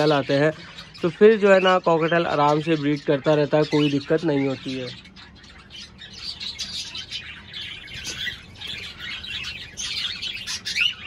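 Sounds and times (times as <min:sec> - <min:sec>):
cockatiels chirping: 0:00.0 - 0:11.0.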